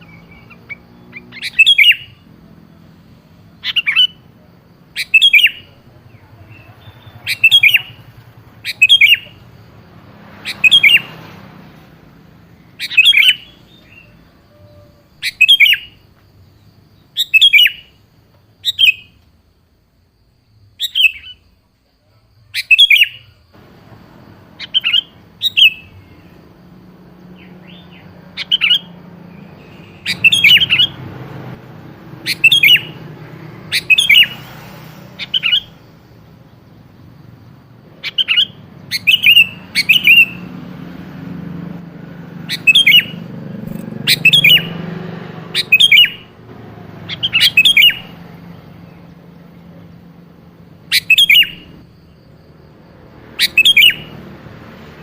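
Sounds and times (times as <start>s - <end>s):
bulbul chirping calls: 0.0s - 11.2s, 12.5s - 18.0s, 18.6s - 19.2s, 20.8s - 21.5s, 22.5s - 34.4s, 35.2s - 40.8s, 41.6s - 54.3s.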